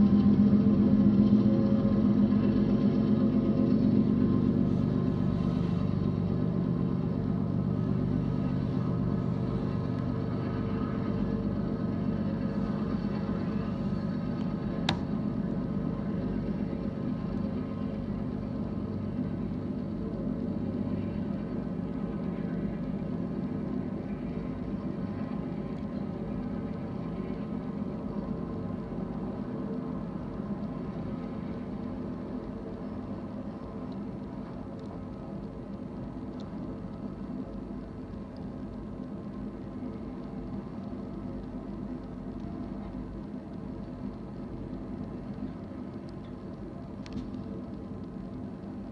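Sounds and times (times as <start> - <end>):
freight train wheels rumbling: 0.0 - 48.9.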